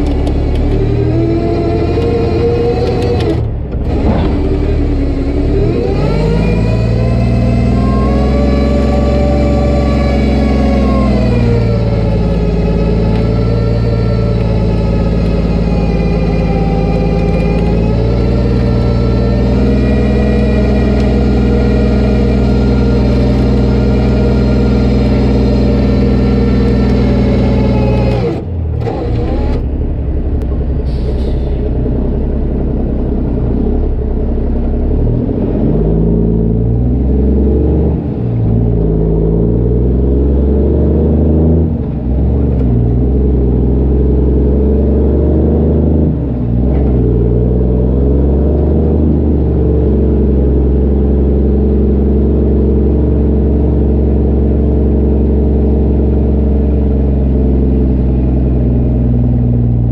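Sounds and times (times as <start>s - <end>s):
loud diesel truck engine: 0.0s - 59.9s.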